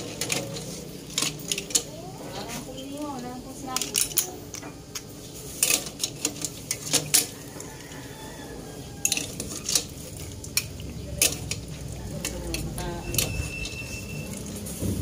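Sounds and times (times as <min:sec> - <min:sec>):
dishes and utensils clinking: 0:00.0 - 0:15.0.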